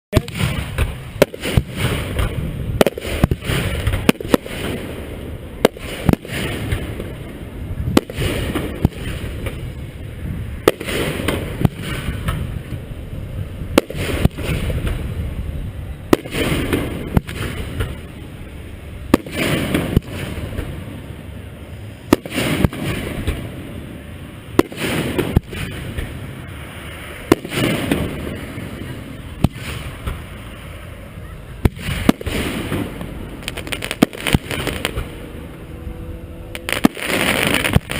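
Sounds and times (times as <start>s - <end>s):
fireworks crackling: 0.1s - 35.7s, 36.4s - 37.9s
fireworks exploding: 0.1s - 35.7s, 36.5s - 37.9s
rumbling echo: 0.2s - 37.9s.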